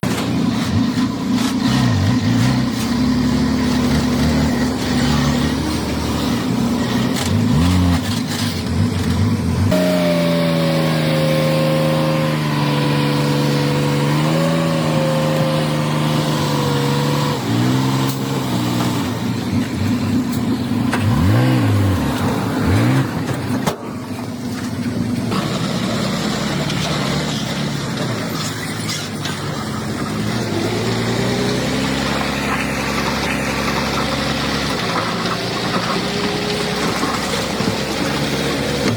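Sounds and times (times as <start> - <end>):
heavy diesel engines revving: 0.0 - 38.9.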